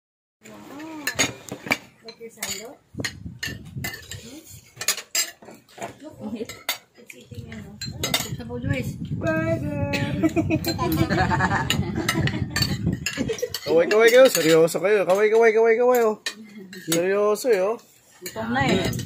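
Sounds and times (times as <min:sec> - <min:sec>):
cutlery clinking on plates: 0:00.7 - 0:08.4, 0:10.7 - 0:19.0.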